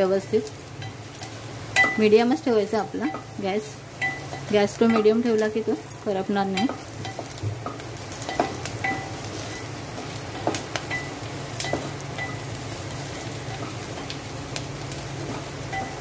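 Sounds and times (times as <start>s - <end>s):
onions frying in oil: 0.0s - 16.0s.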